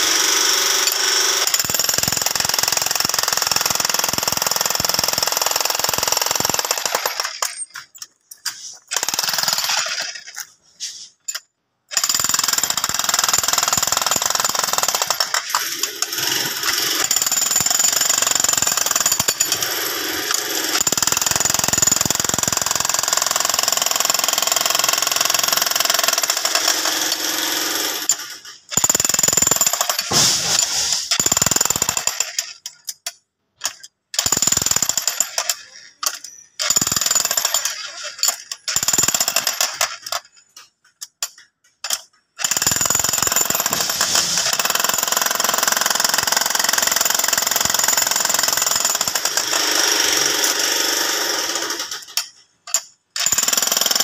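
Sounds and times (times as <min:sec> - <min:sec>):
demolition hammer chiselling: 0:00.0 - 0:54.0.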